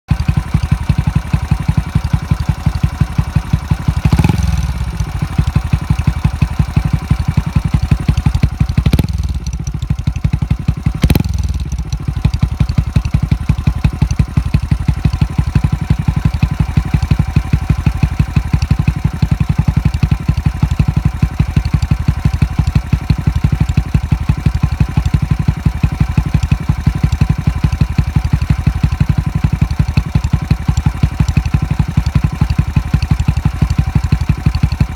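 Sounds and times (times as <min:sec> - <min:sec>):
small engine idling and revving: 0:00.1 - 0:34.9.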